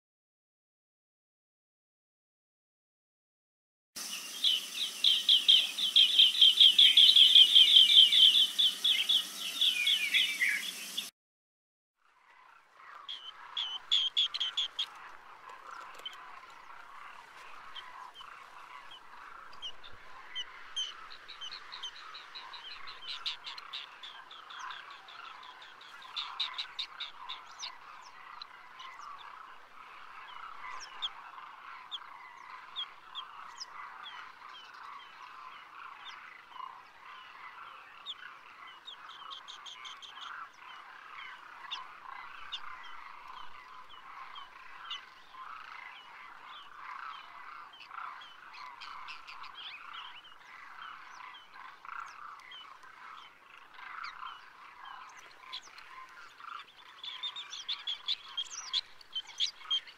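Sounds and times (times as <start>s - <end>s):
frogs croaking: 4.0s - 10.8s, 12.0s - 59.9s
high trilled bird calls: 4.0s - 11.1s, 12.8s - 17.0s, 17.6s - 59.9s.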